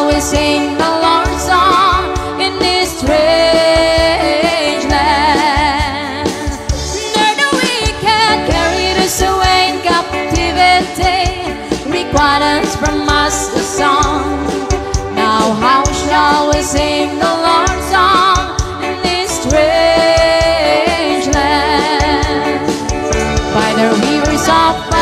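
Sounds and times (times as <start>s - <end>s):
band accompaniment with bass: 0.0s - 25.0s
person singing with vibrato: 0.0s - 25.0s.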